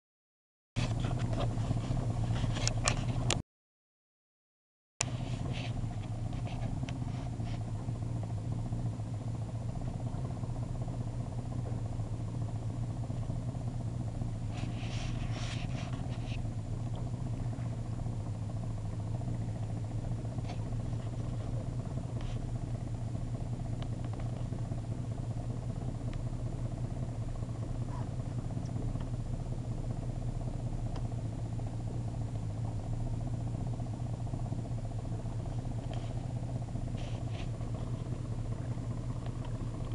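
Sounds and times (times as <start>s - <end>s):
boat engine idling: 0.8s - 3.4s, 5.0s - 39.9s.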